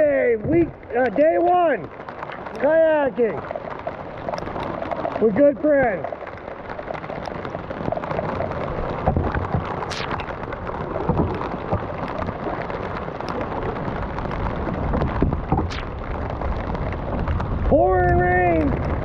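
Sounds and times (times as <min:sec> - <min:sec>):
heavy rain pouring: 0:00.0 - 0:19.0
raindrops pattering near microphone: 0:00.0 - 0:19.0.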